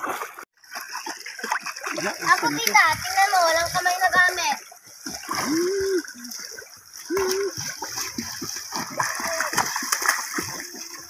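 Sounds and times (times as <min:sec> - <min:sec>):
legs splashing in water: 0:00.0 - 0:11.0.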